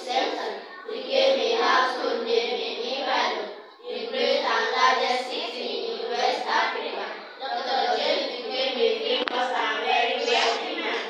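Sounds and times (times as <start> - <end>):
children reading aloud in unison: 0.0 - 11.0.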